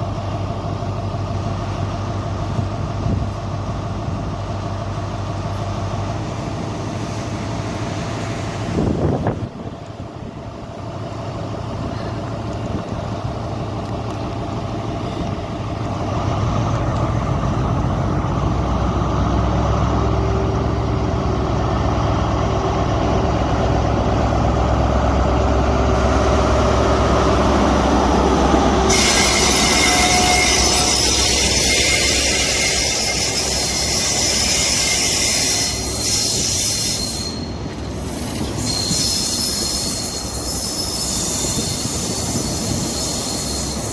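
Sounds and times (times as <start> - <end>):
train engine hum: 0.0 - 43.9
wheel squeal and rail noise: 1.0 - 43.9.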